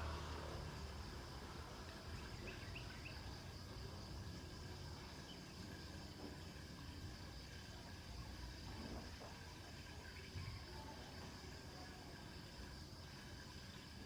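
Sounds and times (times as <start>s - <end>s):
crickets droning: 0.0s - 14.0s.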